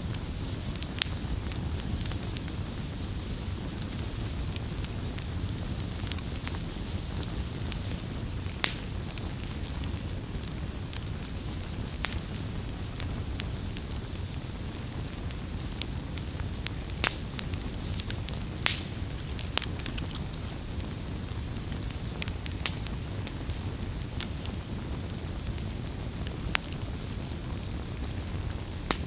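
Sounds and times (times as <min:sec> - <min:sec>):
campfire crackling and popping: 0:00.0 - 0:29.0
low rush of burning: 0:00.0 - 0:29.0.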